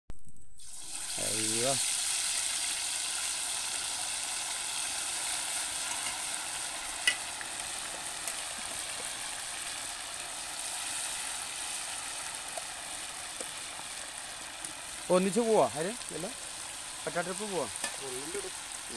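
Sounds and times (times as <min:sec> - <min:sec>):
oil sizzling in a wok: 0:00.5 - 0:18.9.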